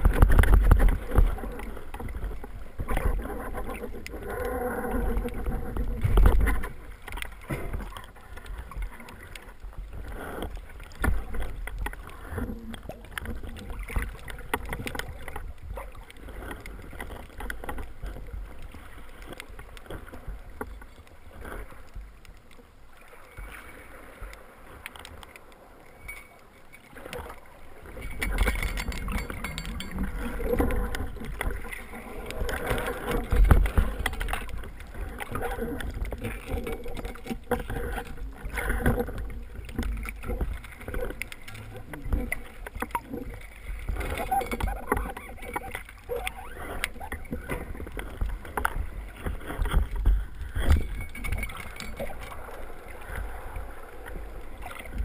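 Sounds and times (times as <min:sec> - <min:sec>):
muffled underwater water noise: 0:00.0 - 0:55.0
small underwater knocks and clicks: 0:00.0 - 0:55.0
water sloshing and rumbling: 0:00.0 - 0:55.0.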